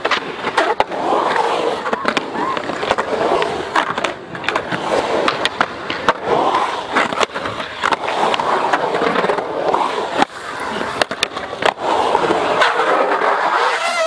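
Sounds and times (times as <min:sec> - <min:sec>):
sharp skateboard clacks: 0:00.0 - 0:14.0
skateboard wheels rolling on concrete: 0:00.0 - 0:14.0.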